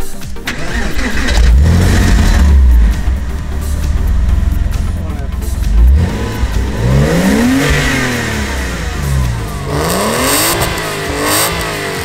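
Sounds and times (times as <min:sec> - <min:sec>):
car engine revving: 0:00.4 - 0:12.0.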